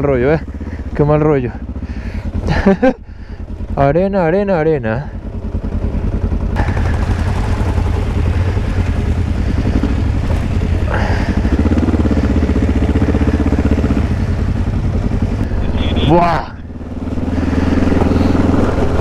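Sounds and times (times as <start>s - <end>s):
constant rushing noise: 0.0s - 19.0s
motorcycle engine running: 0.0s - 19.0s.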